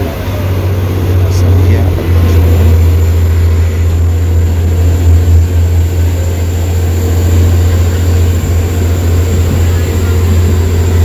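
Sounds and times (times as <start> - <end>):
train rumble from inside coach: 0.0 - 11.0.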